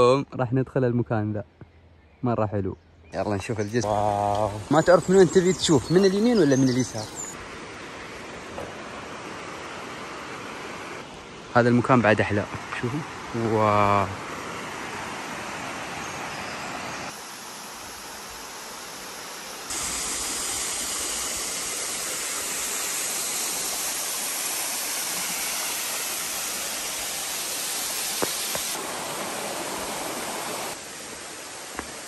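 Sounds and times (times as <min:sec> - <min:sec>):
rushing river and waterfall: 0:03.2 - 0:32.0.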